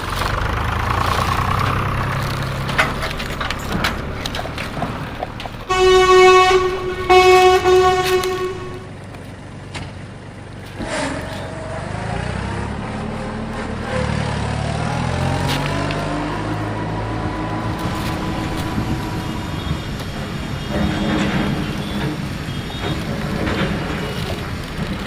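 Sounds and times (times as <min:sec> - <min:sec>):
vehicle motor running: 0:00.0 - 0:25.0.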